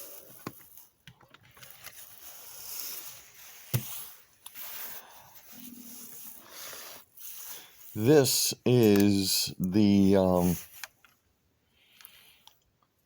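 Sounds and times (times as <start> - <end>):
handling small objects: 0.0 - 11.3.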